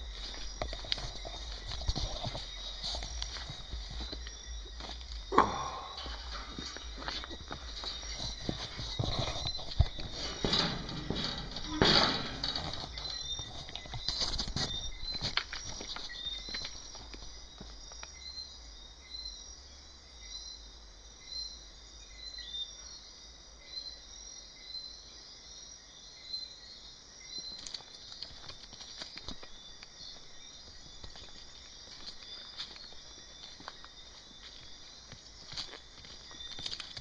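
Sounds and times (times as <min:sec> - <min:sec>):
night insects chirping: 0:00.0 - 0:37.0.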